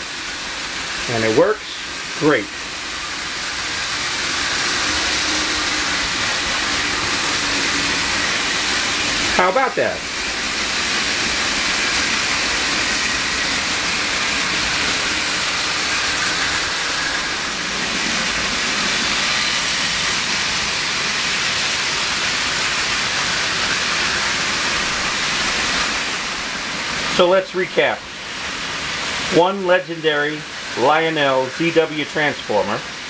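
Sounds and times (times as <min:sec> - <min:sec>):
model trains running on track: 0:00.0 - 0:33.0.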